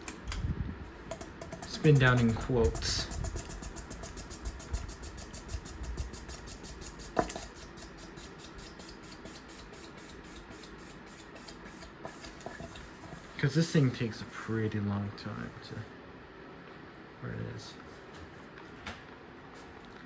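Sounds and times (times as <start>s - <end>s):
ceiling fan whoosh: 0.0s - 16.5s.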